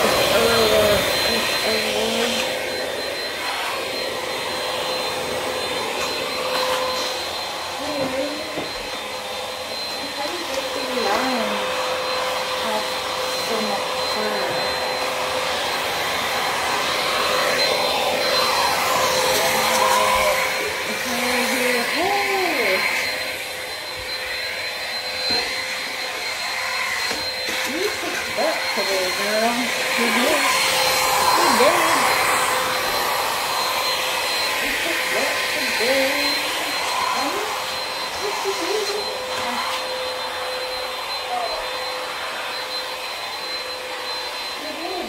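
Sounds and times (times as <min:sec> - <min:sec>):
handheld vacuum running: 0:00.0 - 0:45.0.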